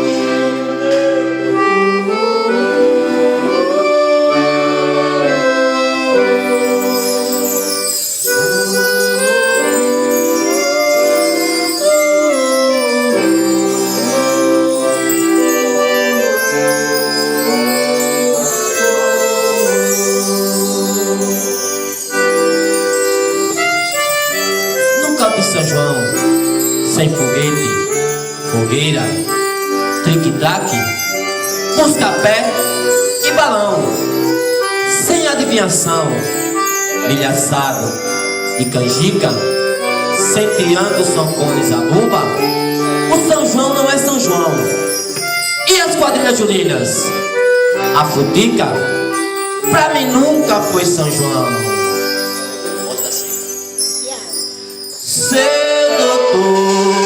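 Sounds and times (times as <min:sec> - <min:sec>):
accordion playing held chords: 0:00.0 - 0:57.0.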